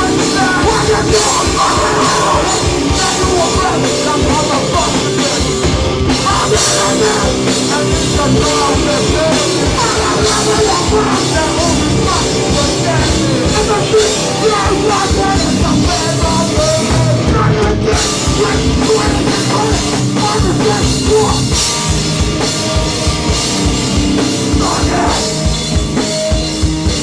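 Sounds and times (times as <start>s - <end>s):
hardcore band playing live: 0.0s - 27.0s.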